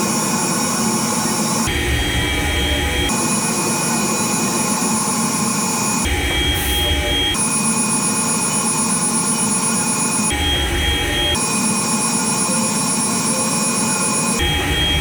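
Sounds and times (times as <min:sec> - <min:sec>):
milling machine whirring: 0:00.0 - 0:15.0.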